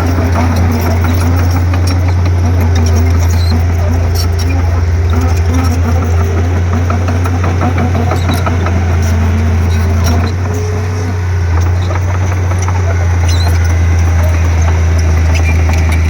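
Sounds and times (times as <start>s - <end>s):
bulldozer diesel engine running: 0.0s - 16.0s
light clicks and squeaks: 0.0s - 16.0s.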